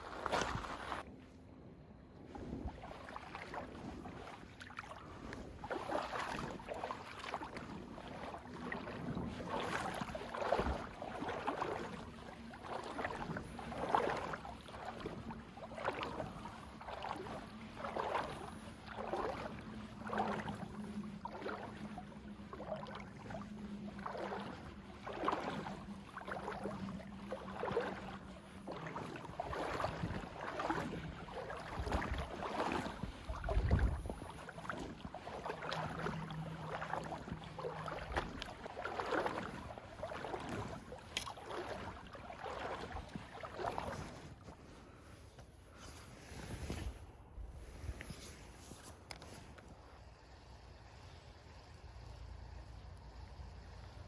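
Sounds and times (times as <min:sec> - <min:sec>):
water sloshing around wading legs: 0:00.0 - 0:54.0.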